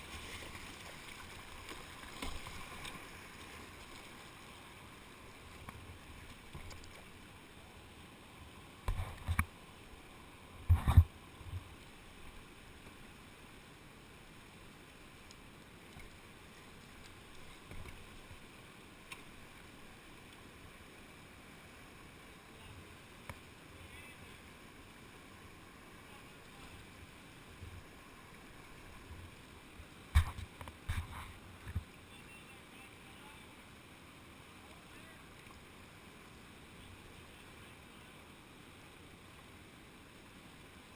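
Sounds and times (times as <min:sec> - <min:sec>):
creek rushing: 0:00.0 - 0:40.9.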